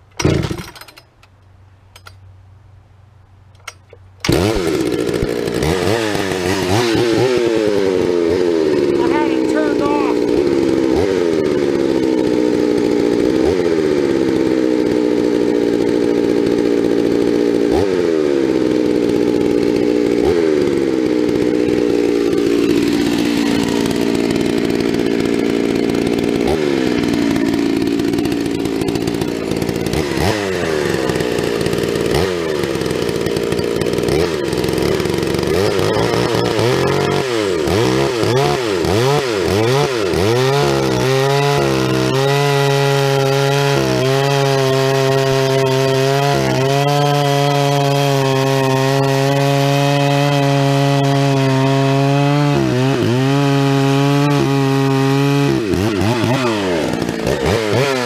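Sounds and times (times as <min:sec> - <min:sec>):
chainsaw cutting log: 0:00.0 - 0:01.3, 0:03.6 - 0:58.0.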